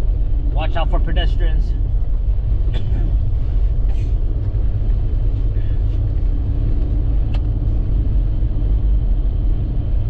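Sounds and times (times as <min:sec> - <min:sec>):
engine and tyre rumble: 0:00.0 - 0:10.0.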